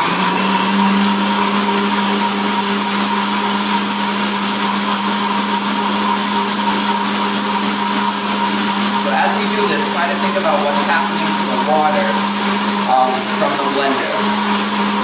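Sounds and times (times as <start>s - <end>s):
blender motor running: 0.0s - 15.0s.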